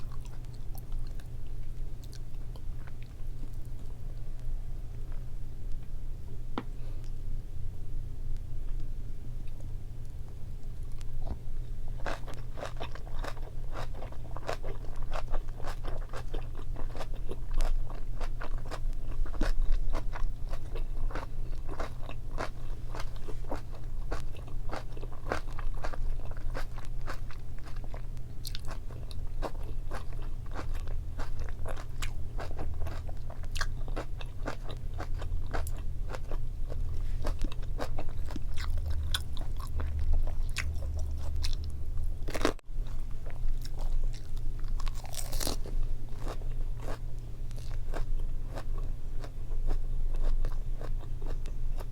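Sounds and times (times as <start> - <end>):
person chewing crunchy food: 0.0 - 4.0, 10.6 - 51.9
low steady hum: 0.0 - 51.9.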